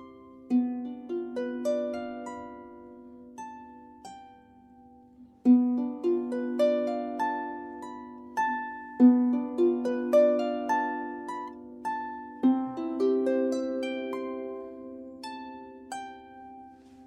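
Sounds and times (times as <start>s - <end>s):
harp playing slow melody: 0.0s - 17.0s.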